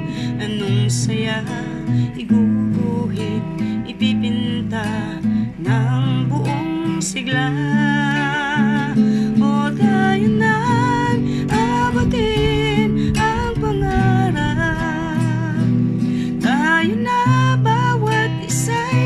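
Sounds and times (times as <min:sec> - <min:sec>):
acoustic guitar background music: 0:00.0 - 0:19.0.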